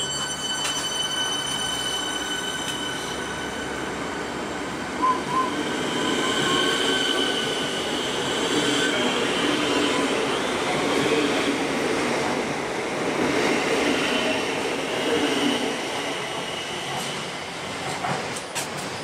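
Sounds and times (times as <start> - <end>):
rumble of wheels on rails: 0.0 - 19.0.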